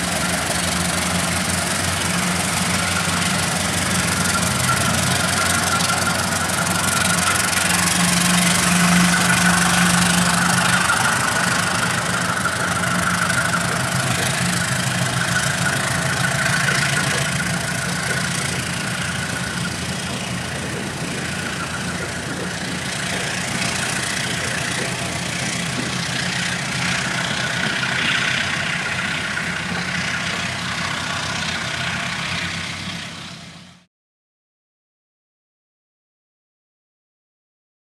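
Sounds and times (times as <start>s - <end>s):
carriages rolling hiss and rumble: 0.0s - 33.9s
diesel locomotive engine under load: 0.0s - 33.9s.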